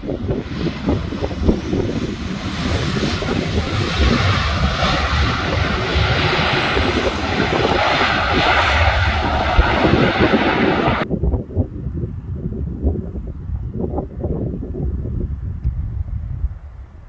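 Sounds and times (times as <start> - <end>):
jet airliner engine noise: 0.0 - 15.4
wind buffeting microphone: 0.0 - 17.0.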